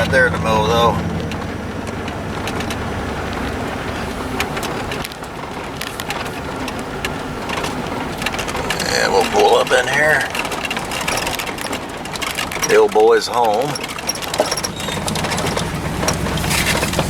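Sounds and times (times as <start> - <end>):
low engine hum: 0.0 - 17.0
tyres crunching gravel: 0.0 - 17.0.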